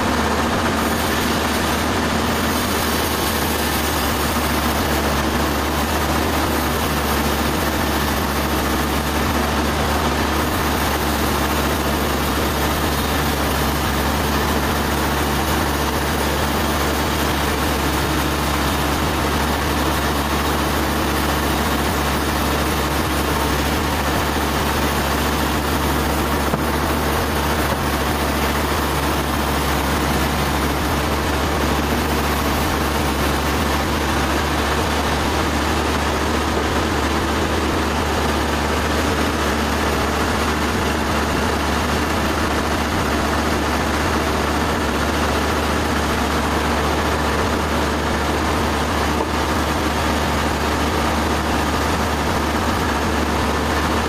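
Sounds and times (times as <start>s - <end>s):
sawmill engine humming: 0.0s - 54.0s.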